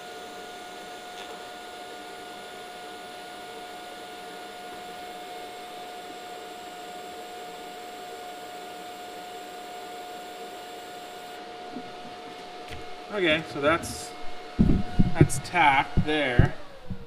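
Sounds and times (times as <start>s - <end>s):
fan hiss and whine: 0.0s - 17.0s.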